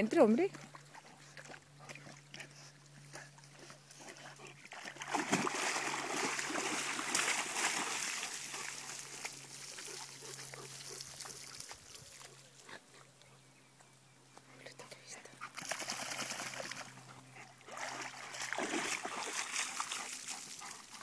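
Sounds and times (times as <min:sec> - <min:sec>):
dogs splashing through water: 0:00.4 - 0:12.6, 0:15.4 - 0:21.0.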